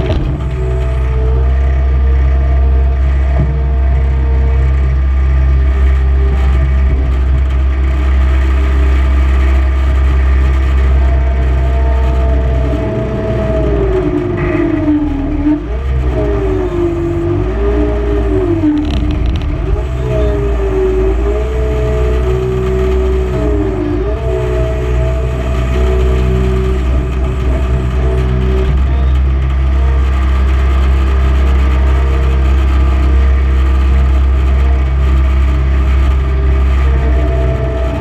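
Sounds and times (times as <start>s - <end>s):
loader engine running: 0.0s - 38.0s.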